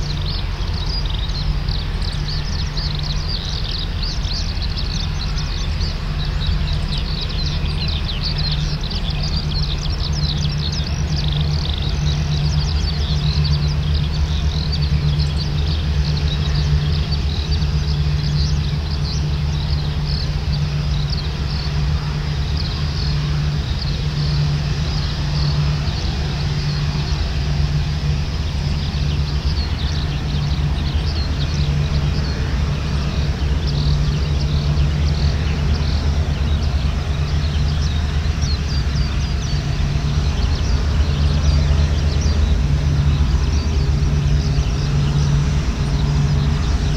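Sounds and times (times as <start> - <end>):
airliner engines rumbling: 0.0 - 46.9
birds chirping: 0.0 - 46.9.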